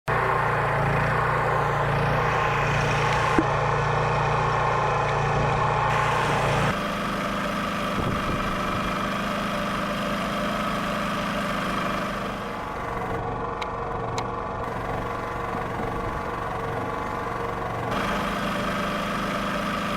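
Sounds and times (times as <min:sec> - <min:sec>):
generator engine hum: 0:00.1 - 0:19.9.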